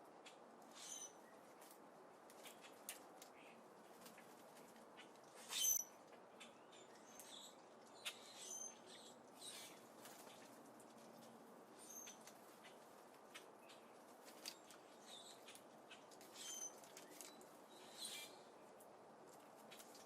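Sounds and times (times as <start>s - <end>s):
small birds chirping: 0.2s - 20.0s.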